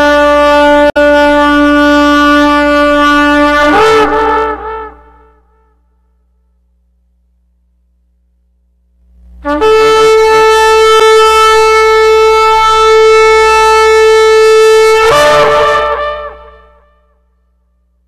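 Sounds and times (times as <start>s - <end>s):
shofar blast: 0.0s - 6.2s, 9.4s - 17.8s.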